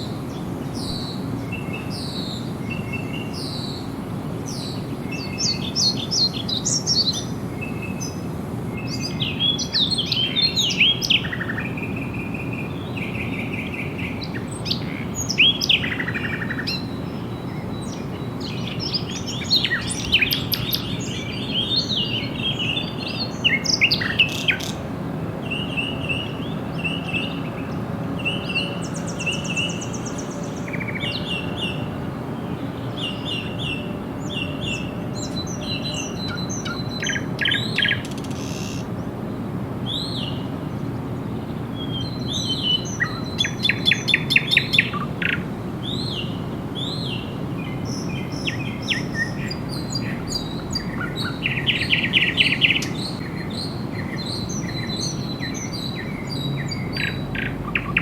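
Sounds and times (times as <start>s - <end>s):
low background hum: 0.0s - 58.0s
songbirds singing and chirping: 0.0s - 58.0s.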